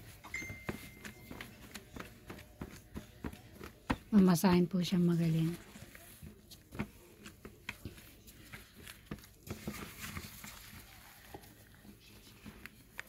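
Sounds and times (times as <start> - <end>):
hands kneading dough: 0.0 - 13.0.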